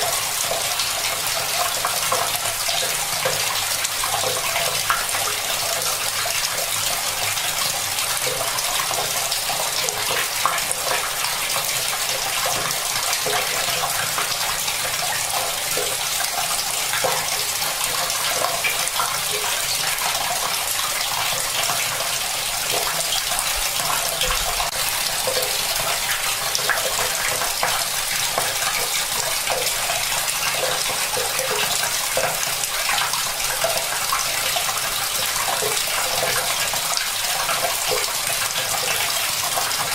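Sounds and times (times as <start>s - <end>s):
tap water running into bucket: 0.0s - 39.9s.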